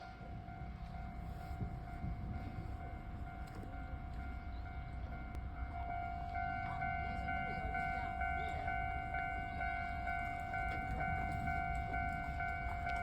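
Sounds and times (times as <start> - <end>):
level-crossing warning alarm: 0.0 - 13.0.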